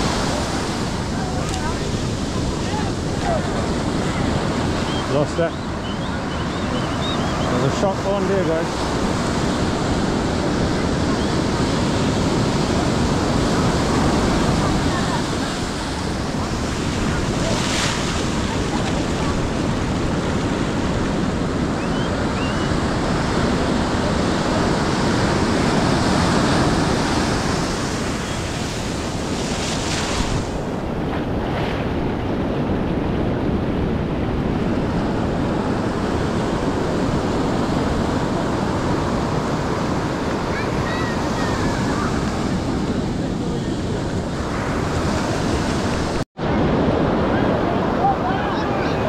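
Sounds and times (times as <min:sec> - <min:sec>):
ocean surf breaking: 0:00.0 - 0:49.0
wind buffeting microphone: 0:00.0 - 0:49.0.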